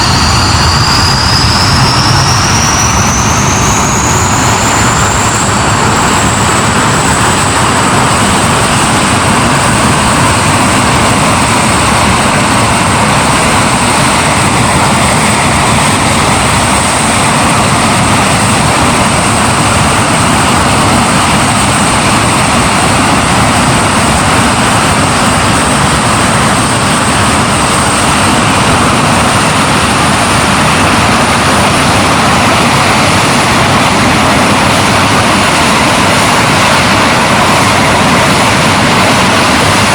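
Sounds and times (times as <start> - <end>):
jet engine running: 0.0 - 39.9.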